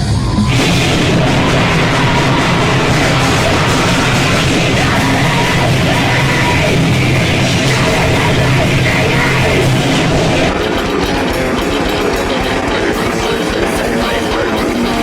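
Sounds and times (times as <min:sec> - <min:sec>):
distorted guitars: 0:00.0 - 0:15.0
drums: 0:00.0 - 0:15.0
person yelling vocals: 0:00.5 - 0:15.0.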